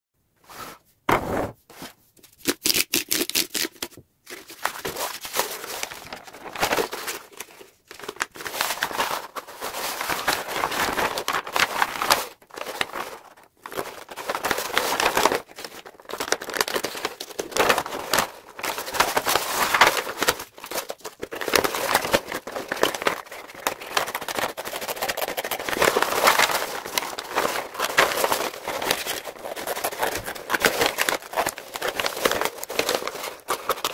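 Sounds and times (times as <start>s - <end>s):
wrapping paper rustling: 3.2s - 33.9s.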